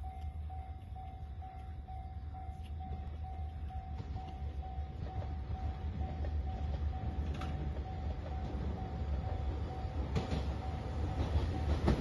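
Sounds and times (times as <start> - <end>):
level crossing warning bell ringing: 0.0 - 12.0.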